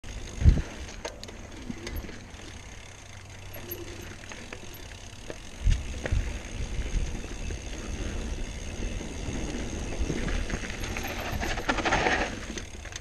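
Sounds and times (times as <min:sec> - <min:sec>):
bike clicks and rattles: 0:00.0 - 0:13.0
bike tyres rumbling on dirt: 0:00.0 - 0:13.0.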